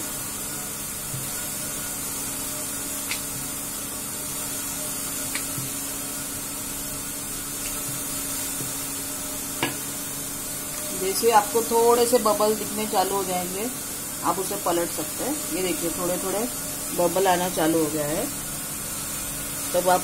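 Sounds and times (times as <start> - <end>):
gas stove burner hissing: 0.0 - 20.0.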